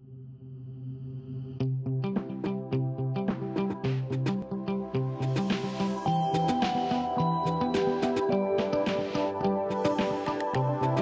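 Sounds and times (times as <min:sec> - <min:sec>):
electronic music with beat: 0:02.0 - 0:11.0.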